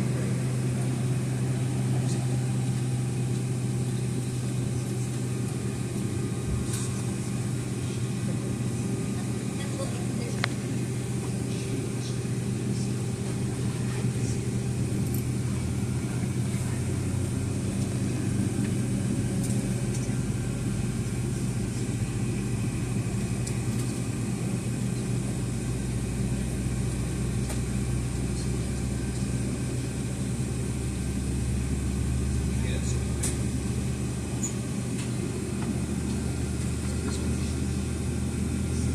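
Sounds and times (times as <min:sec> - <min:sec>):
airplane cabin hum: 0:00.0 - 0:38.9.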